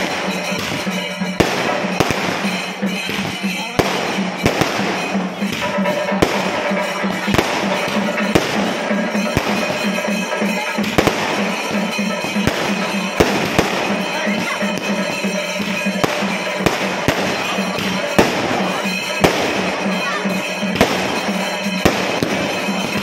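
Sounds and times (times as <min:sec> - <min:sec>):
fireworks bangs: 0:00.0 - 0:23.0
fireworks crackling: 0:00.0 - 0:23.0
music with pulsing beat: 0:00.0 - 0:23.0.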